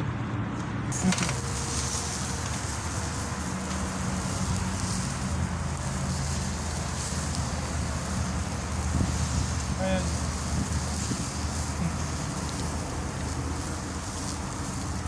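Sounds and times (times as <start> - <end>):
blower fan motor hum: 0.8 - 15.0
air hissing over coals: 0.9 - 15.0.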